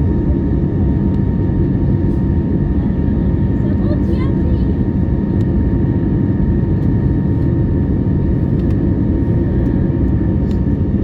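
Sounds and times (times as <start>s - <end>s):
airplane engine and airflow rumble: 0.0s - 11.0s
engine whine: 0.0s - 11.0s.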